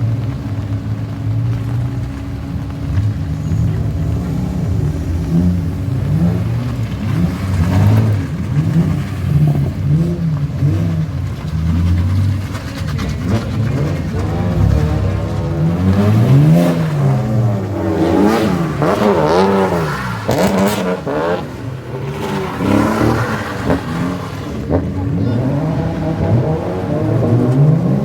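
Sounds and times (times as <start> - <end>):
car engine revving hard: 0.0 - 28.0.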